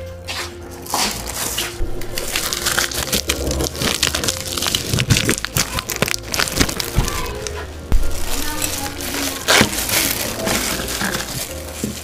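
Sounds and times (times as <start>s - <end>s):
foil wrapper crinkling: 0.8s - 12.0s.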